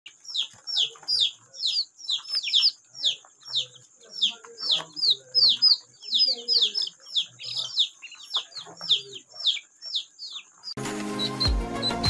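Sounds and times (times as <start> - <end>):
ducklings and chicks peeping: 0.1 - 12.0.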